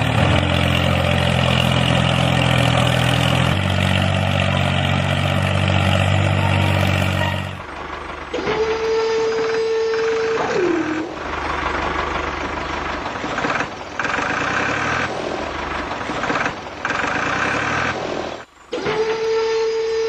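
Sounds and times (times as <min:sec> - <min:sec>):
rough mechanical running noise: 0:00.0 - 0:20.0.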